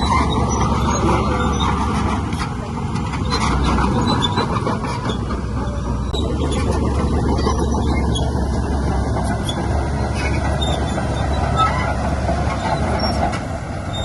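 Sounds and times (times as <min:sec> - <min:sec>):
high squeaks and clicks: 0:00.0 - 0:08.6, 0:09.2 - 0:14.0
diesel machinery engine hum: 0:00.0 - 0:14.0.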